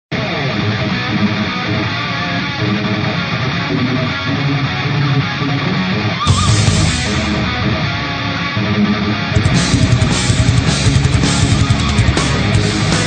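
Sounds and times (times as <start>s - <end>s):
hard rock instrumental music: 0.1s - 13.0s
strummed electric guitars: 0.1s - 13.0s.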